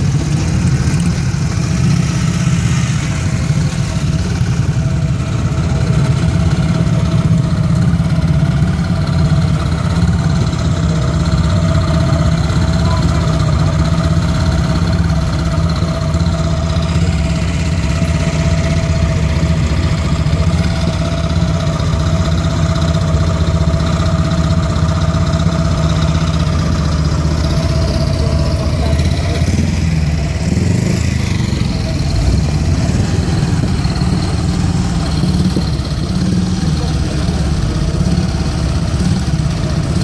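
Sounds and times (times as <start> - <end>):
motorcycle engine: 0.0 - 40.0
truck engines running at low revs: 0.0 - 40.0.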